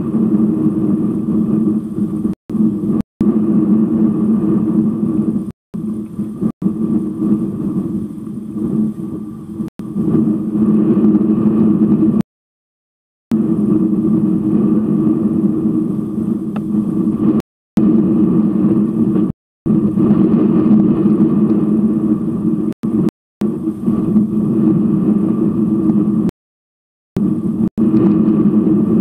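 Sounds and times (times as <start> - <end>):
low rumble with hum: 0.0 - 12.3, 13.3 - 26.4, 27.2 - 29.0.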